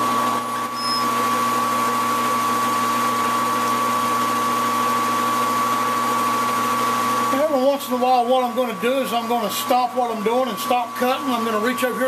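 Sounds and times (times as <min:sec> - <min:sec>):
metal lathe whirring with high whine: 0:00.0 - 0:12.0.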